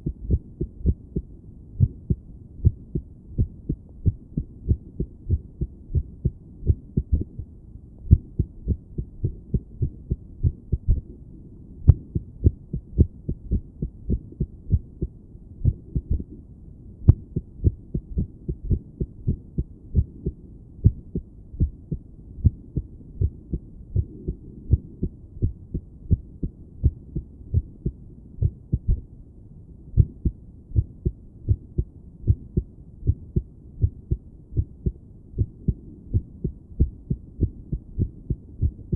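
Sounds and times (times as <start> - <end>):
heartbeat through stethoscope: 0.0 - 11.2, 11.8 - 16.4, 17.0 - 29.1, 30.0 - 38.9.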